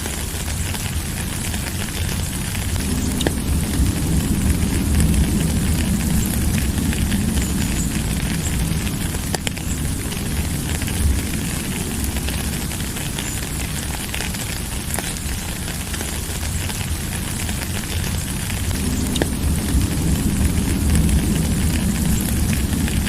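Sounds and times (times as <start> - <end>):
deep low rumble: 0.0 - 23.0
drips and ticks: 0.0 - 23.0
steady rain hiss: 0.0 - 23.0.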